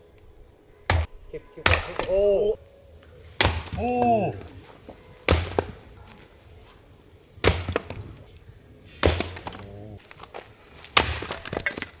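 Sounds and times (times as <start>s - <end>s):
wood cracking: 0.0s - 12.0s
axe chopping wood: 0.8s - 12.0s.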